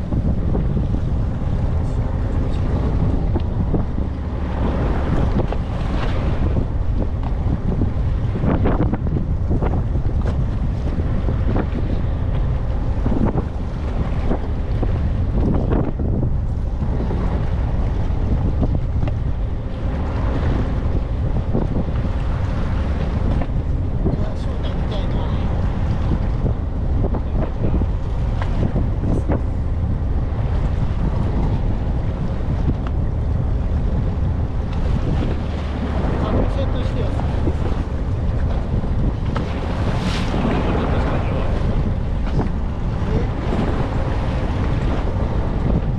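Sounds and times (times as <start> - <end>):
low rumble of boat and water: 0.0 - 45.9
wind buffeting microphone: 0.0 - 45.9.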